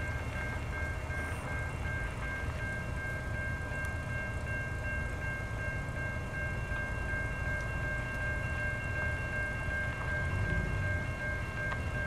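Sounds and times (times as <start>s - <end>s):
crossing warning bell ringing: 0.0s - 12.0s.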